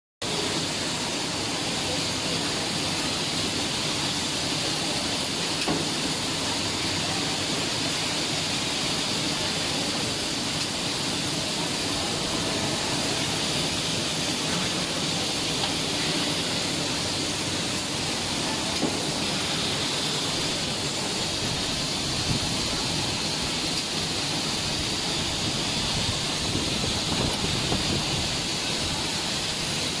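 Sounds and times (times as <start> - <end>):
continuous machinery hiss: 0.2 - 30.0.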